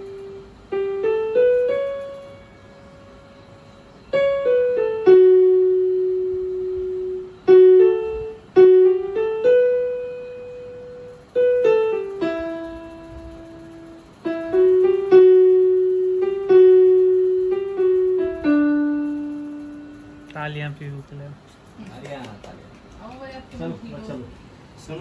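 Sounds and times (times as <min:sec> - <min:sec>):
electronic keyboard piano melody: 0:00.0 - 0:21.4.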